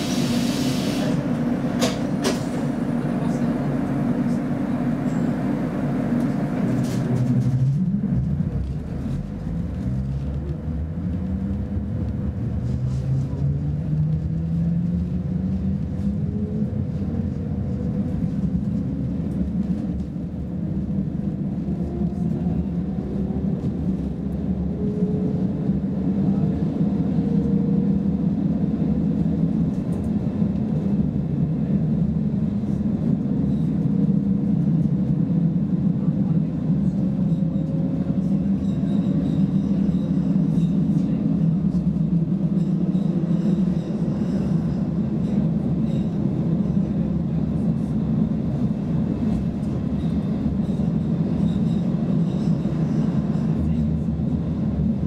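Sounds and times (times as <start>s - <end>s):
wheels rumbling on track: 0.0s - 55.0s.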